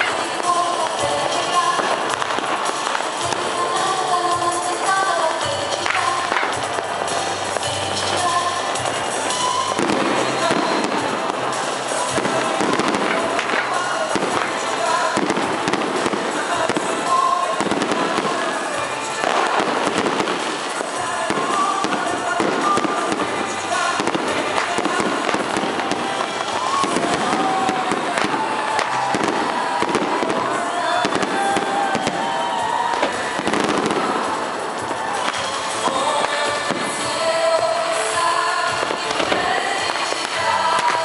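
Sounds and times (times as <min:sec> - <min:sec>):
fireworks crackling and banging: 0:00.0 - 0:41.0
music playing: 0:00.0 - 0:41.0.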